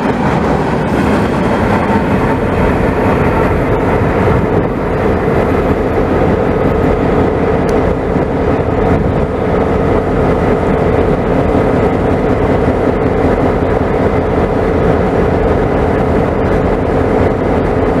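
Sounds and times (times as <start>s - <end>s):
diesel locomotive engine droning: 0.0s - 18.0s.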